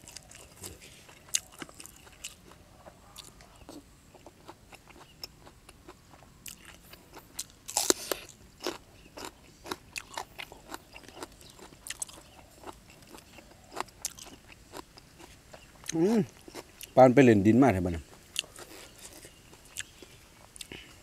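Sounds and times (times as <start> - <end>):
wet crunchy chewing: 0.0 - 17.0, 18.0 - 21.0.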